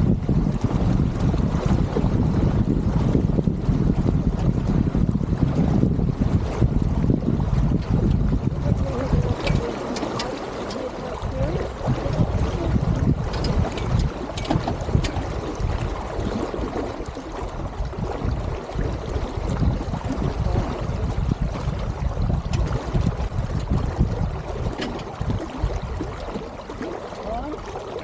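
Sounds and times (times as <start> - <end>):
water sloshing against hull: 0.0 - 28.0
wind buffeting microphone: 0.0 - 28.0.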